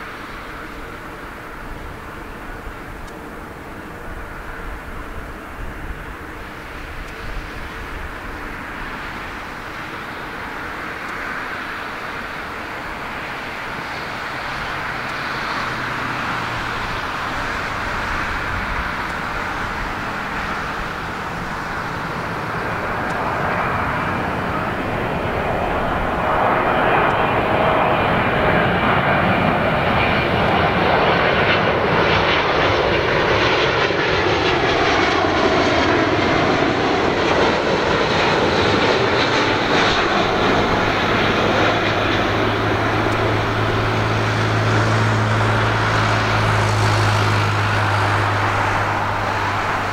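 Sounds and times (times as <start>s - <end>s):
jet airliner engines rushing: 0.0s - 49.9s.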